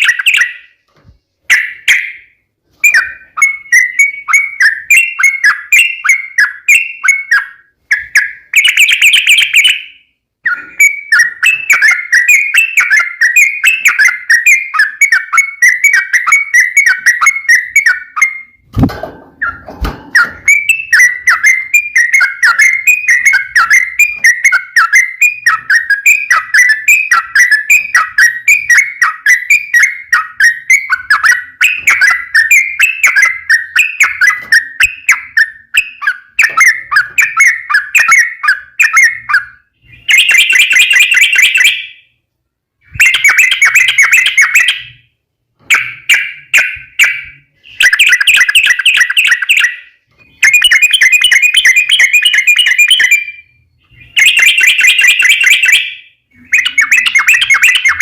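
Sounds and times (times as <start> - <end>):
bird chattering chirps: 0.0 - 0.8, 1.5 - 18.6, 19.4 - 41.9, 45.7 - 58.0.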